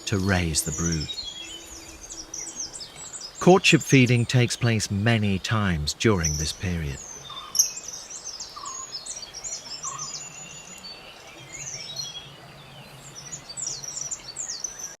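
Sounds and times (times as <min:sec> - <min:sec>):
birds chirping and singing: 0:00.0 - 0:15.0.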